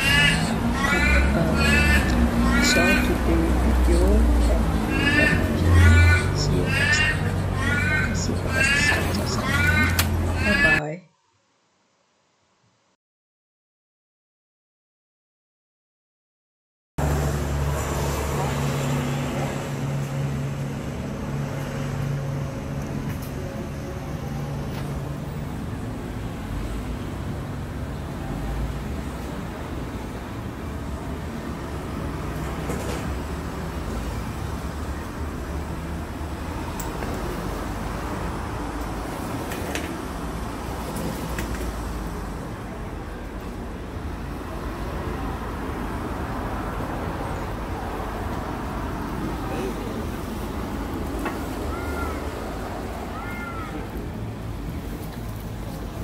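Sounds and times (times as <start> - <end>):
road rumble: 0.0 - 10.9, 17.0 - 56.0.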